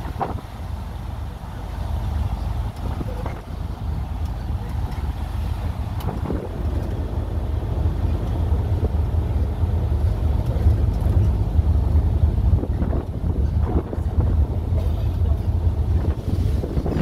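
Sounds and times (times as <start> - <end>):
land train rumbling: 0.0 - 17.0.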